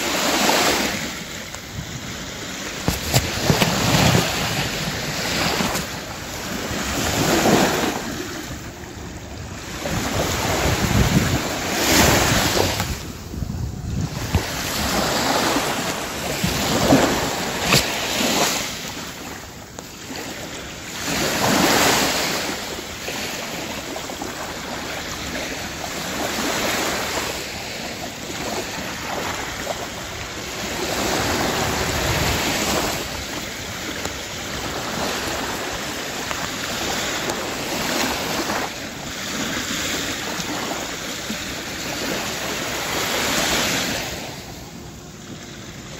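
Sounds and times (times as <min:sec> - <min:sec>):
sea waves washing onto beach: 0:00.0 - 0:45.9.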